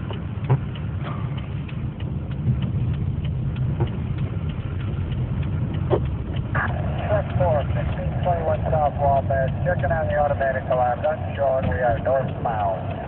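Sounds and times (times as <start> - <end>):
car engine and tyre rumble: 0.0 - 13.0
light ticks and clicks: 0.0 - 13.0.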